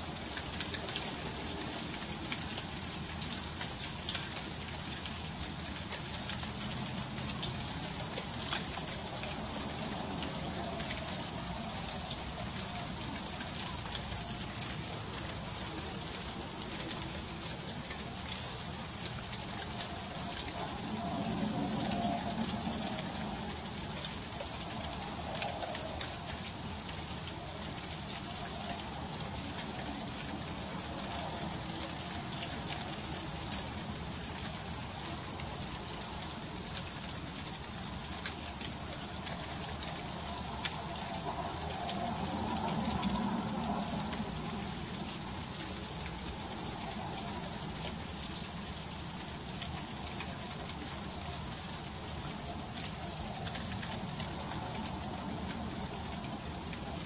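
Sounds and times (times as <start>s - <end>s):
freezing rain pattering: 0.0s - 57.0s.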